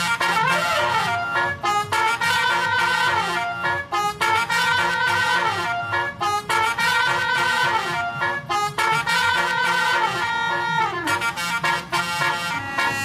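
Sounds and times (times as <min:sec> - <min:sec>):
air horn playing a tune: 0:00.0 - 0:13.0.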